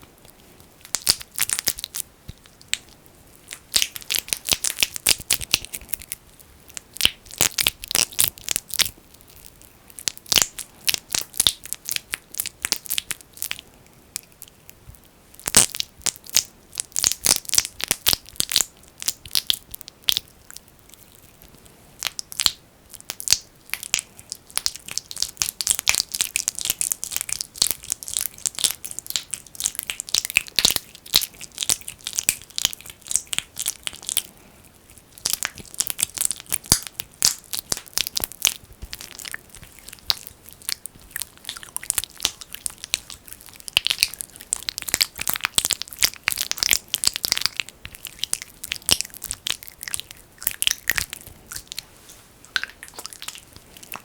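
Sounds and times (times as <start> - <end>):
sticky crackling and popping: 0.2 - 51.8, 52.4 - 54.0
fingers squishing petroleum jelly: 0.3 - 14.7, 15.3 - 34.3, 34.9 - 51.8, 52.4 - 54.0.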